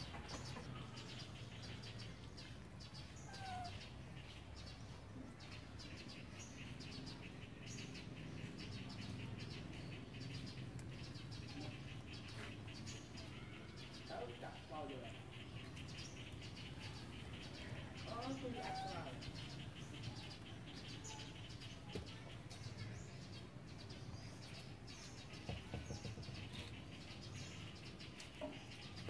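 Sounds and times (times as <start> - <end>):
birds chirping in trills: 0.0 - 29.0.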